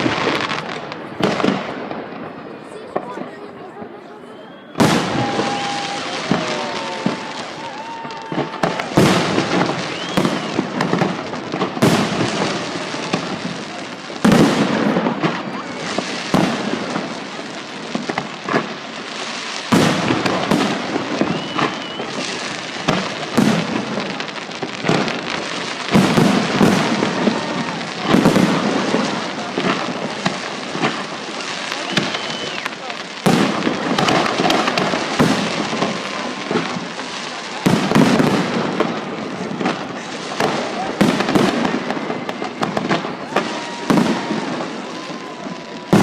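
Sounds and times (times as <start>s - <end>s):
fireworks booms echoing: 0.0s - 46.0s
crackling hiss: 4.4s - 46.0s.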